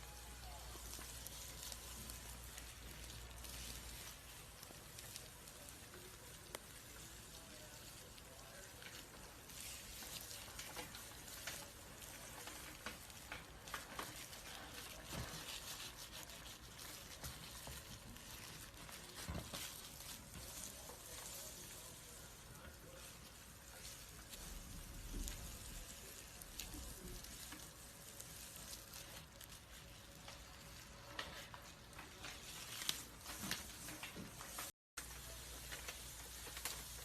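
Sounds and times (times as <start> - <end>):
snake skin crackling: 0.0 - 37.0.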